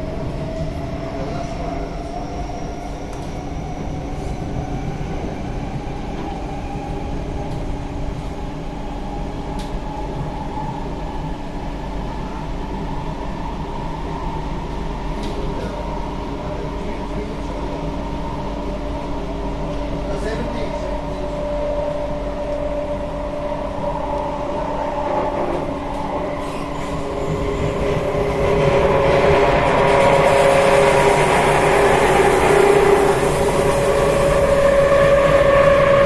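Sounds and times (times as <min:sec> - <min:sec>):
train wheels rumbling on rails: 0:00.0 - 0:13.1, 0:13.7 - 0:36.0.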